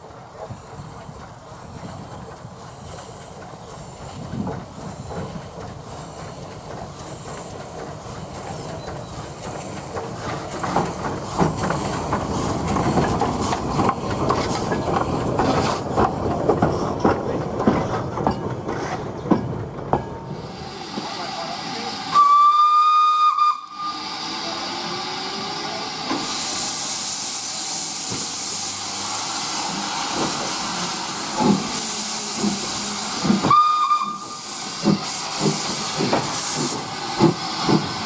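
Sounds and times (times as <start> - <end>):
train wheels clicking over rail joints: 0.0 - 20.4, 26.0 - 38.0
train approaching: 0.0 - 38.0.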